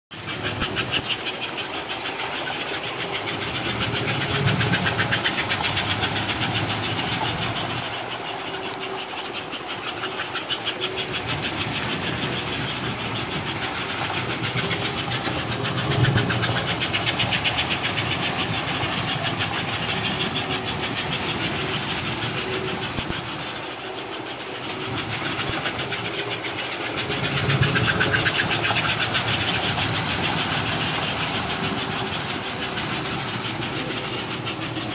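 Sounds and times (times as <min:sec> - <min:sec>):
model steam train chuffing: 0:00.1 - 0:34.9
motor hum: 0:00.1 - 0:34.9
wheels rolling on rails: 0:00.1 - 0:34.9.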